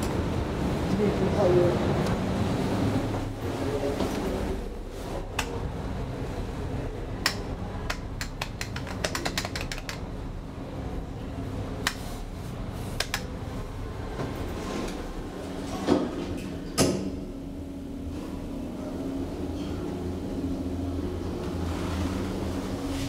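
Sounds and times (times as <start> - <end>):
elevator hum: 0.0 - 23.0.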